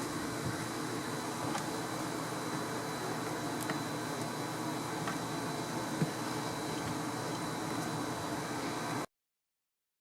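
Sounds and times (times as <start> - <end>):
background hiss and hum: 0.0 - 9.1.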